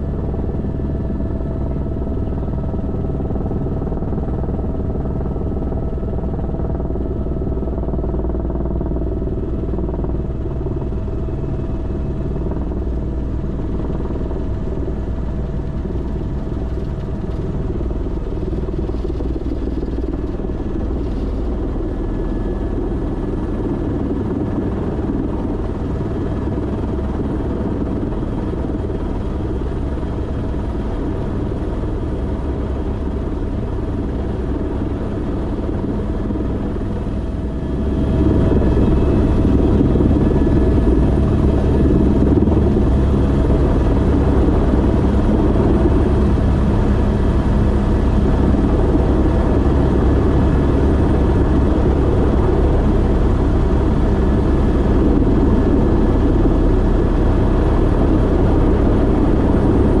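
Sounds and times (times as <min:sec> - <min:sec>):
helicopter engine and rotor: 0:00.0 - 1:00.0.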